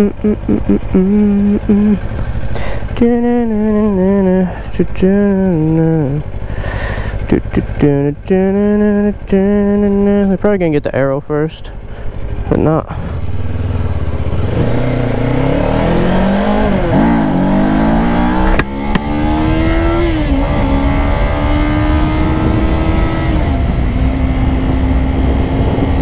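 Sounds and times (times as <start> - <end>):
motorcycle engine accelerating: 0.0 - 10.6, 11.7 - 26.0
low rumble: 0.0 - 26.0.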